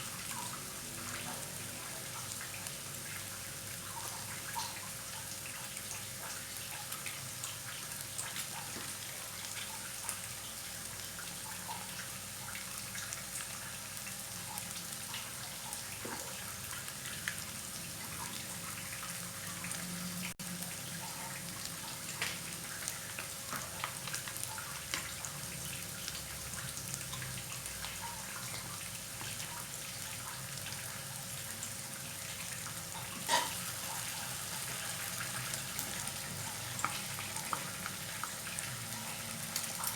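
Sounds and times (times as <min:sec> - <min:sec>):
noodles sizzling in a pan: 0:00.0 - 0:39.9.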